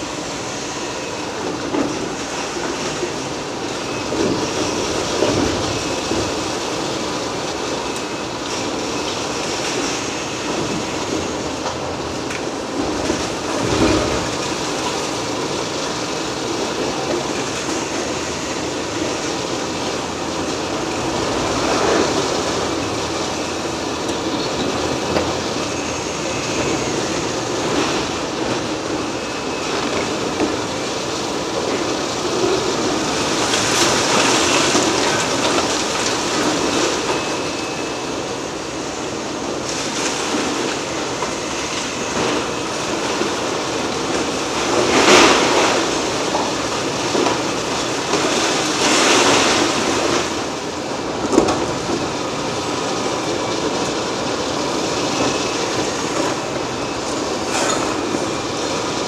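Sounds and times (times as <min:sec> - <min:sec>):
excavator crunching concrete debris: 0:01.5 - 0:59.0.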